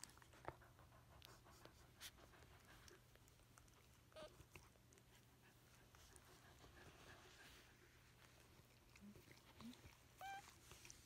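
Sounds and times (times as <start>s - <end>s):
faint low hum: 0.0s - 11.0s
faint rustles: 1.2s - 11.0s.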